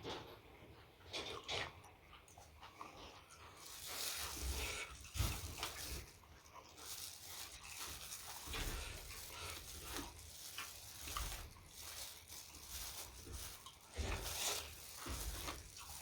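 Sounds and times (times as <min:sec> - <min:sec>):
person chewing: 0:02.7 - 0:16.0.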